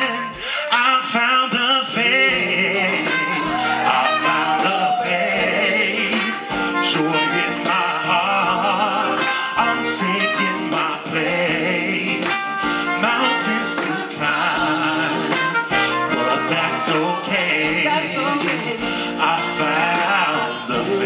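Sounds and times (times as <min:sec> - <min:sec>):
drums: 0:00.0 - 0:21.0
electric guitar: 0:00.0 - 0:21.0
man singing: 0:00.0 - 0:21.0.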